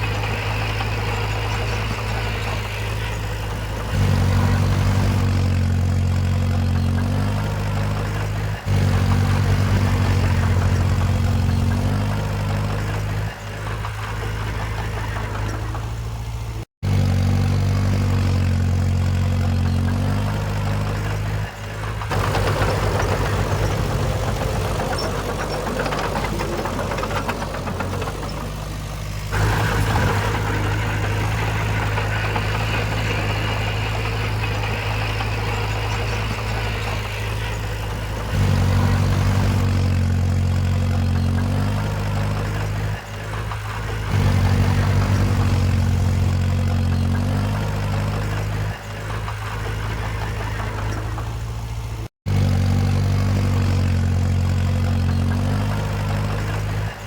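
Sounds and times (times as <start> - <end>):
heavy diesel engines humming: 0.0 - 57.0.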